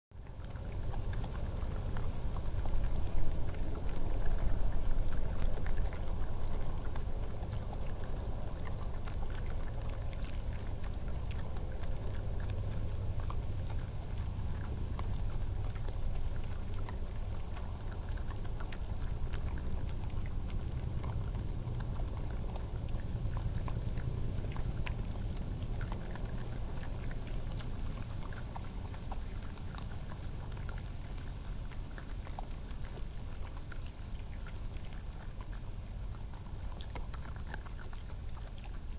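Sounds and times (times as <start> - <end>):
steady low rumble: 0.2 - 38.3
animals crunching and chewing peanuts: 0.2 - 38.9.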